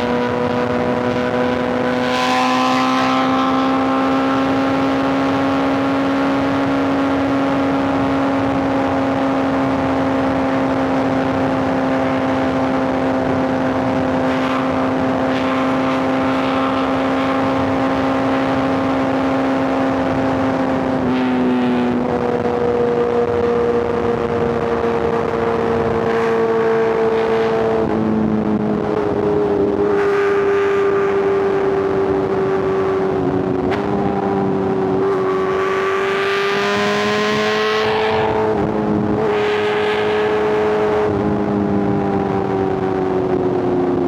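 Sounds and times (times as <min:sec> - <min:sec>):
motorcycle engine cruising: 0:00.0 - 0:44.0.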